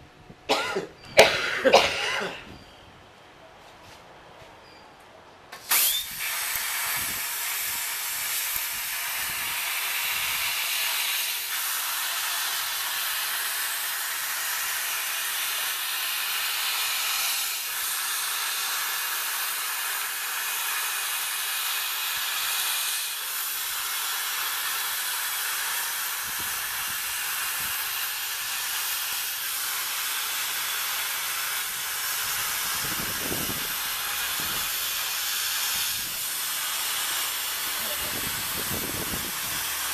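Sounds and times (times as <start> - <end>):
plasma cutter hissing: 5.6 - 39.9
plasma torch arc burst: 5.6 - 39.9.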